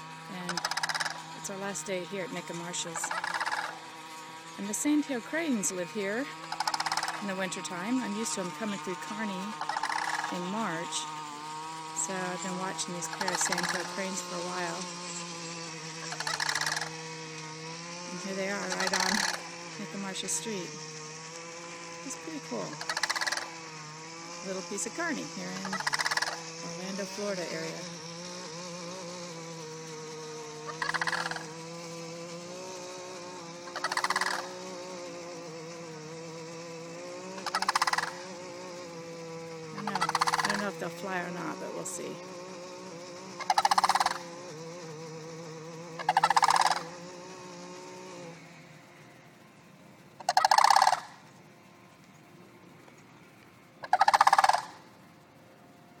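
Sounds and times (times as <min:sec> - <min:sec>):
cranes rattling calls: 0:00.0 - 0:55.4
steady low hum: 0:00.0 - 0:56.0.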